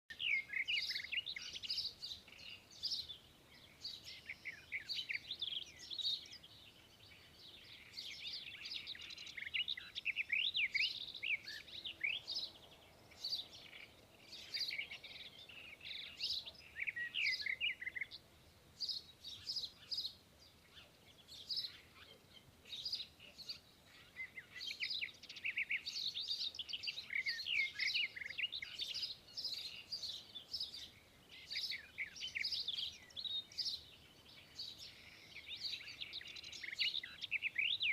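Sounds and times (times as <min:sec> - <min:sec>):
songbirds chirping and singing: 0:00.1 - 0:37.9.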